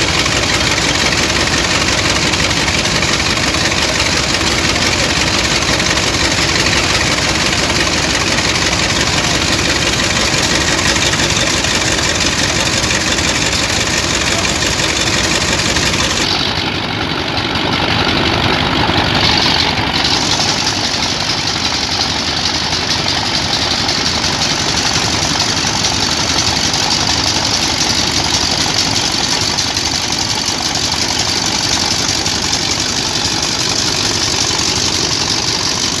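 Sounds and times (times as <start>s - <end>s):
dredger engine and pump running: 0.0s - 36.0s.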